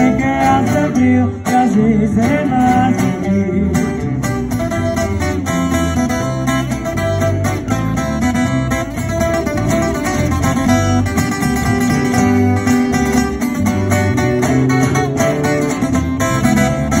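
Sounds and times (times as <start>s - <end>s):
picked guitar melody: 0.0s - 17.0s
steady bass line: 0.0s - 17.0s
strummed guitar chords: 0.0s - 17.0s.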